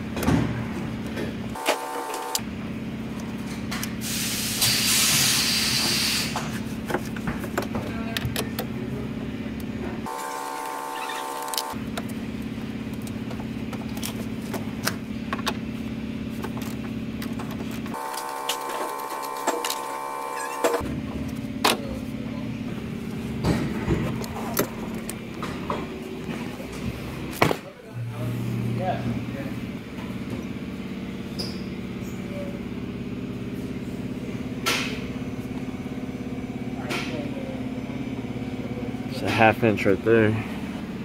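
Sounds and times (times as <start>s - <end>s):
engine idling: 0.0s - 41.0s
steady mechanical hum: 0.0s - 41.0s.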